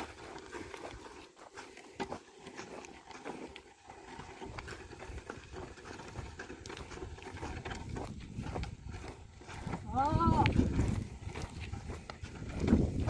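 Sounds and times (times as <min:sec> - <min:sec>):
oxen hoof steps: 0:00.0 - 0:13.0.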